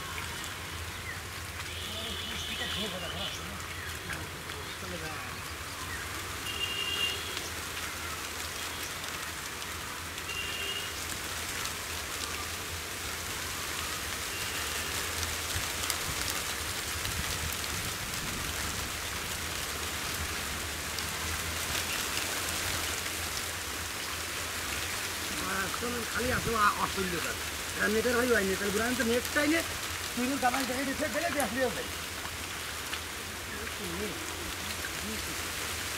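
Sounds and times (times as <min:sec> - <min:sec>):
water splashing and trickling: 0:00.0 - 0:35.9.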